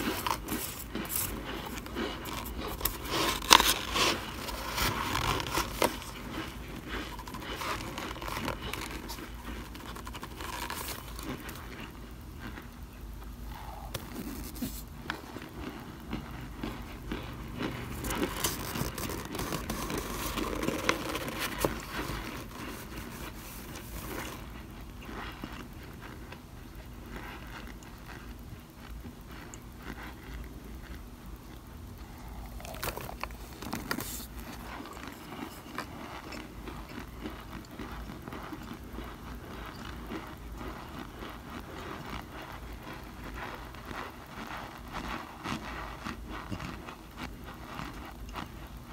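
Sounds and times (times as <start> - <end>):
cornstarch crunching and squeaking: 0.0 - 31.2, 31.9 - 48.9.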